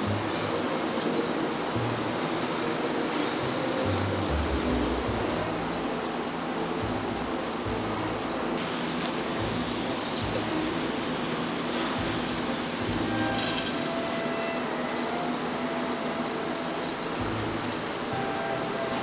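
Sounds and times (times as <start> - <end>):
conveyor machinery noise: 0.0 - 19.0.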